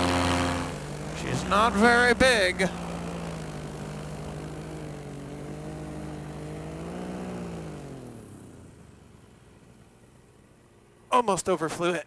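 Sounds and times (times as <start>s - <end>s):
paramotor engine running: 0.0s - 11.6s.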